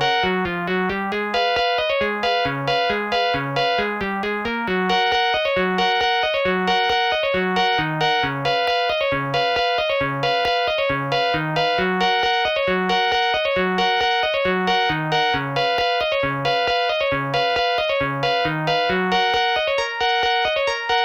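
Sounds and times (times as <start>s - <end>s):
polyphonic phone ringtone melody: 0.0s - 21.0s.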